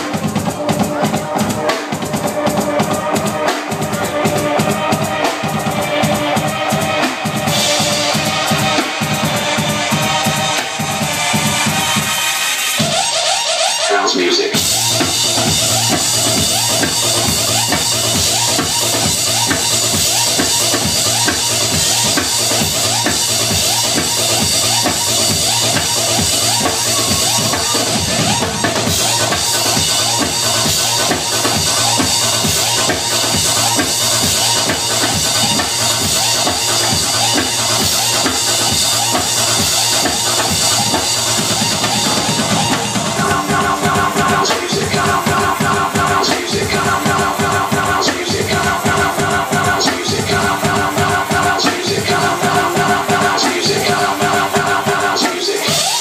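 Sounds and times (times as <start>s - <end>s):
drum kit playing: 0.0s - 56.0s
electronic music: 0.0s - 56.0s.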